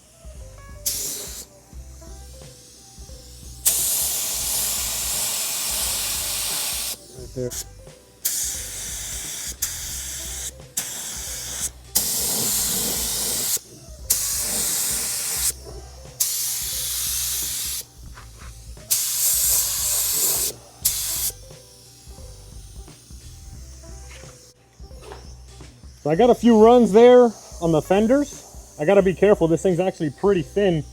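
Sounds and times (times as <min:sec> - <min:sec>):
spray gun hissing: 0:00.0 - 0:30.9.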